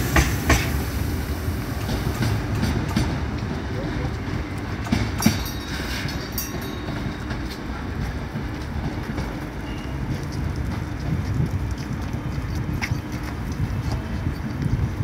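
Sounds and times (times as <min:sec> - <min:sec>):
train wheel clicks: 0:00.0 - 0:01.0, 0:01.6 - 0:15.0
train rumbling past: 0:00.0 - 0:15.0.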